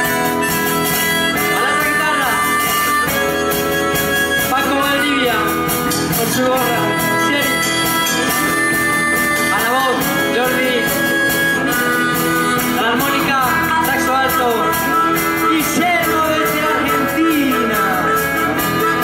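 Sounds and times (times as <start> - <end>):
bending guitar lead line: 0.0 - 19.0
drums: 0.0 - 19.0
electric guitars: 0.0 - 19.0.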